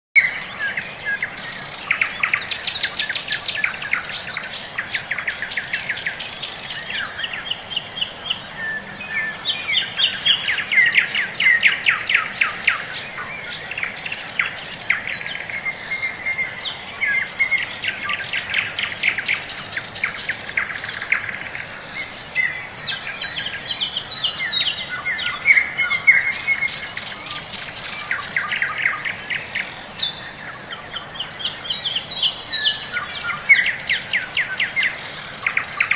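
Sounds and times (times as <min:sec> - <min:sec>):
faint outdoor hiss: 0:00.2 - 0:35.9
songbirds chirping: 0:00.2 - 0:35.9.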